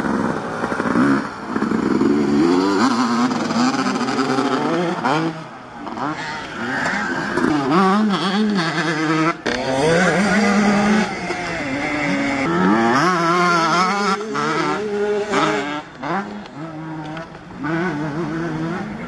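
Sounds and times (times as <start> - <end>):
motocross bikes revving past: 0.0 - 19.0.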